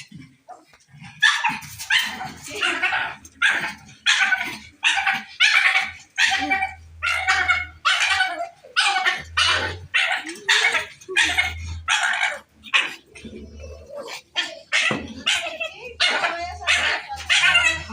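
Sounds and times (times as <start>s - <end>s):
dog barking: 1.2s - 13.0s, 14.7s - 17.9s.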